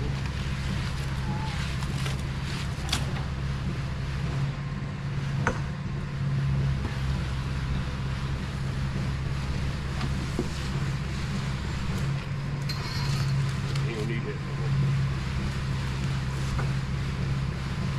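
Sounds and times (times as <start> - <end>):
truck engine running: 0.0 - 17.9.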